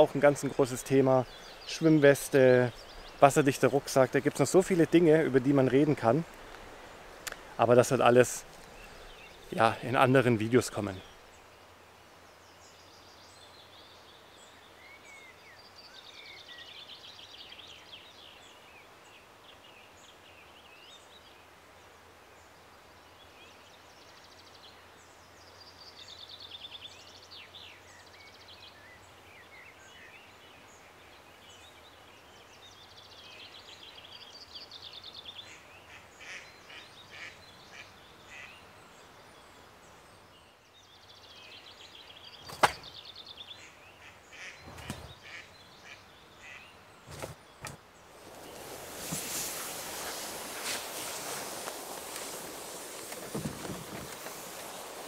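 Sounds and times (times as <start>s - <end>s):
faint outdoor background: 0.0s - 55.0s.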